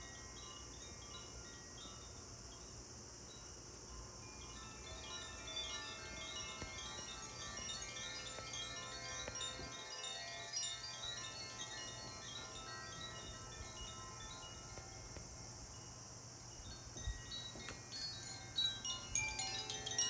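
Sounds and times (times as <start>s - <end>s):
chimes tinkling: 0.0s - 20.0s.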